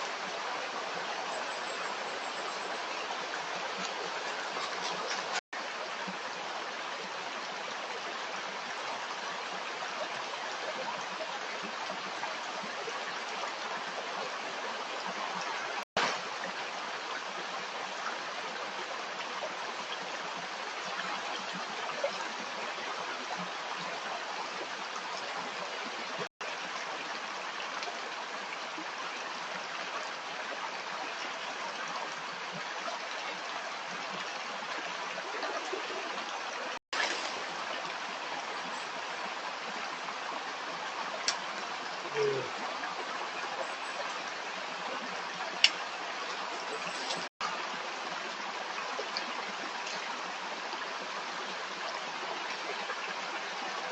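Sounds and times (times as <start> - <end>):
stream water babbling: 0.0 - 53.9.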